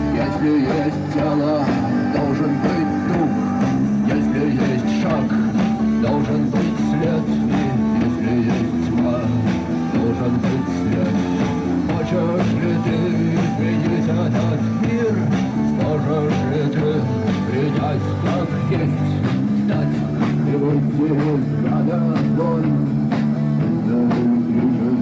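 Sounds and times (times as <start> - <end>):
bass guitar: 0.0 - 25.0
drums keeping a beat: 0.0 - 25.0
electric guitars: 0.0 - 25.0.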